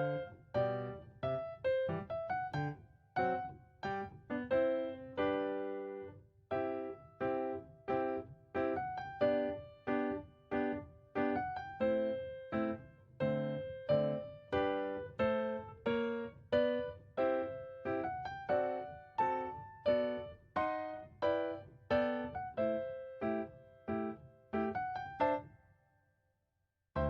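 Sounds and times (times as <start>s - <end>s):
piano chords: 0.0s - 25.4s.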